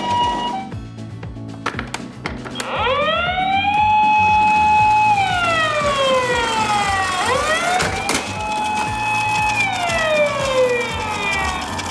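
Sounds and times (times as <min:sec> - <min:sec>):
siren wailing: 0:00.0 - 0:00.8, 0:02.6 - 0:11.9.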